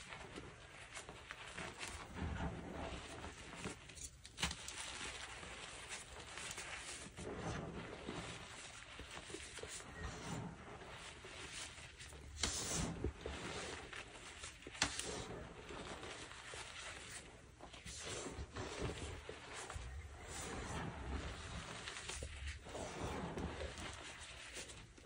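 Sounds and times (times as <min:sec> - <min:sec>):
chalk crunching and crackling: 0:00.0 - 0:25.0.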